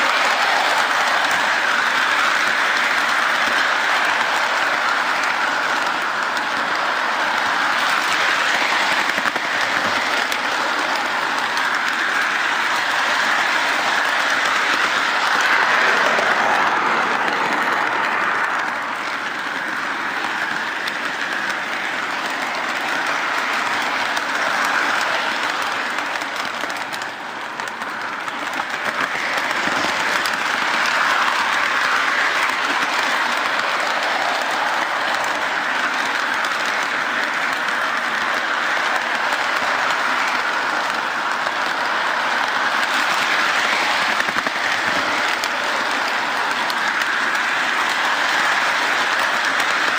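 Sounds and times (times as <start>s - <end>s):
model train wheels clattering: 0.0s - 49.9s.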